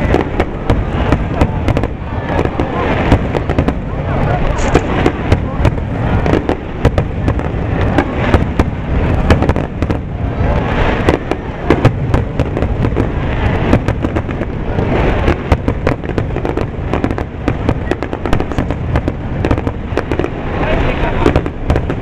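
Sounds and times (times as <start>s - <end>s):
continuous low rumble: 0.0s - 22.0s
firework bangs and crackles: 0.0s - 22.0s.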